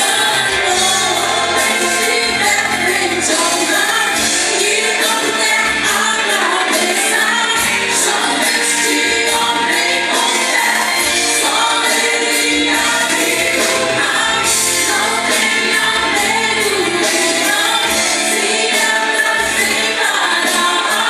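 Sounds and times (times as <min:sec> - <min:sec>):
group singing gospel song: 0:00.0 - 0:21.0
instrumental accompaniment: 0:00.0 - 0:21.0.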